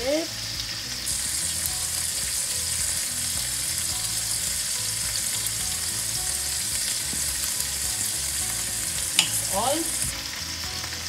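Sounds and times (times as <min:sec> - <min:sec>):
chicken sizzling in a hot pan: 0:00.0 - 0:11.0.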